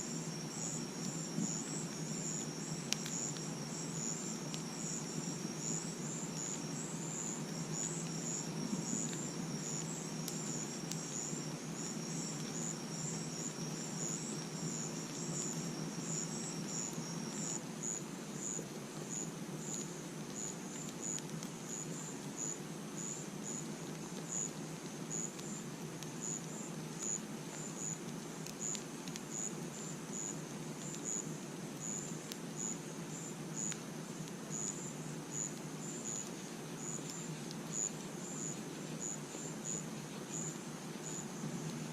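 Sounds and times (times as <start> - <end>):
campfire burning with crackles: 0.0 - 41.9
continuous insect trill: 0.0 - 41.9
crickets chirping: 0.0 - 41.9.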